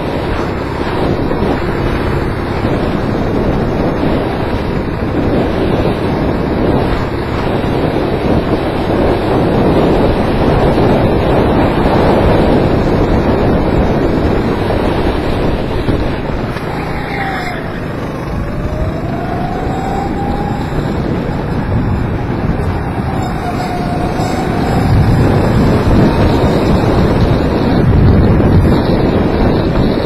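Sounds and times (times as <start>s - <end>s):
go-kart engine running: 0.0s - 30.0s
wind buffeting microphone: 0.0s - 30.0s.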